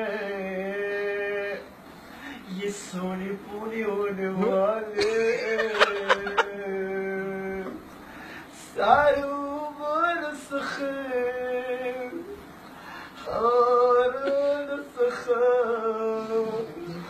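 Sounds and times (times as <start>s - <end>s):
man singing unaccompanied: 0.0s - 7.9s, 8.5s - 12.4s, 13.2s - 17.0s.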